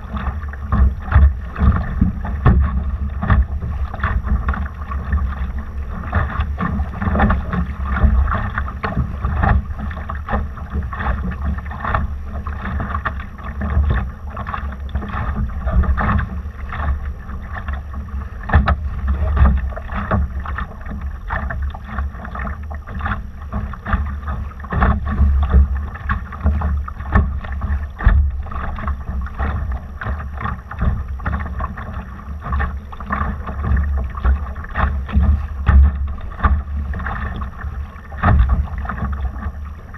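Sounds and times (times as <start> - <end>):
water splashing along hull: 0.0 - 39.9.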